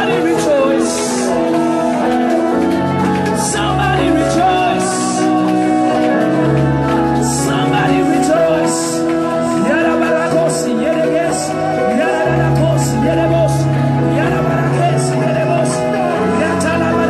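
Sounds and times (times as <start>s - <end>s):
held chords: 0.0s - 17.0s
people singing into microphones: 0.0s - 17.0s
steady bass line: 0.0s - 17.0s.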